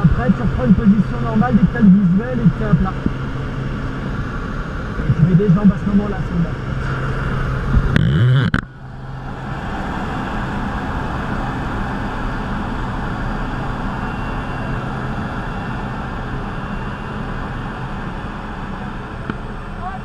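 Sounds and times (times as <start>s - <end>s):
propeller engine droning: 0.0s - 20.0s
rushing air noise: 0.1s - 19.2s.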